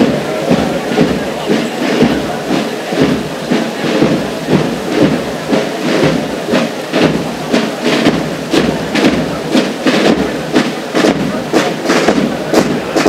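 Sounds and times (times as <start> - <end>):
marching thuds: 0.0 - 13.0.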